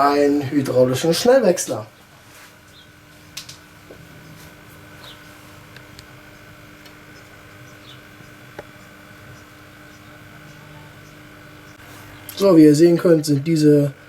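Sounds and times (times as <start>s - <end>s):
quiet steady hum: 0.0s - 14.0s.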